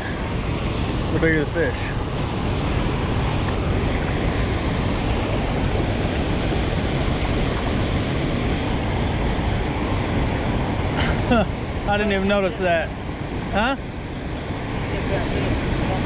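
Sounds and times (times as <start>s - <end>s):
heavy water rushing through dam: 0.0s - 16.0s.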